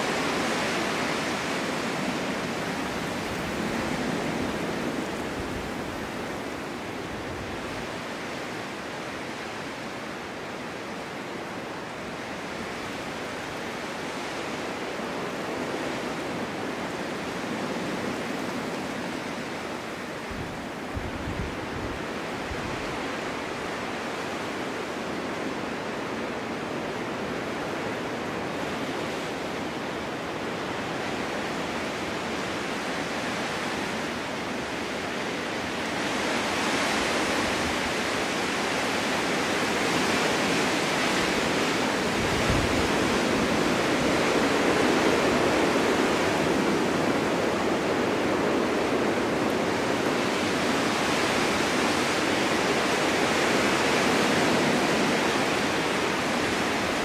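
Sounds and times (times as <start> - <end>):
snowstorm wind rushing hiss: 0.0 - 57.0.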